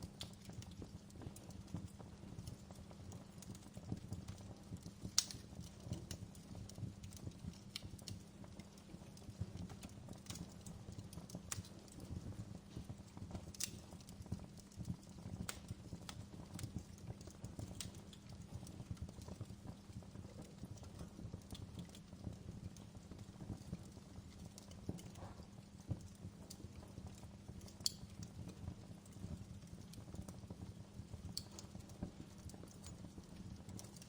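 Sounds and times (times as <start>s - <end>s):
fireplace fire crackling: 0.0s - 34.0s.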